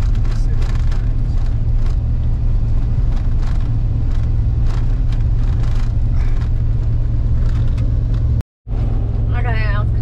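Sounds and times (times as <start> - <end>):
car rattling and knocking: 0.0 - 8.4
tyres rumbling on dirt road: 0.0 - 10.0.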